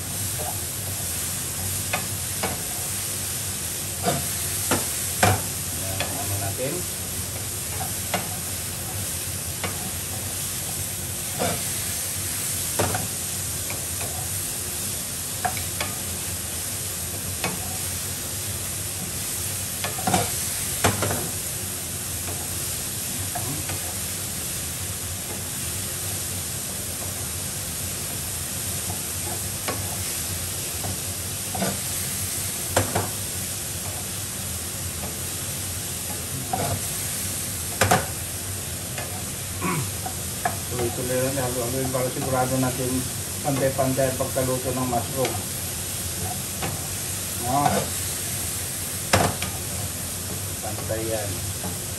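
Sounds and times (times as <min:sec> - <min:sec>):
mushrooms sizzling in a frying pan: 0:00.0 - 0:51.9.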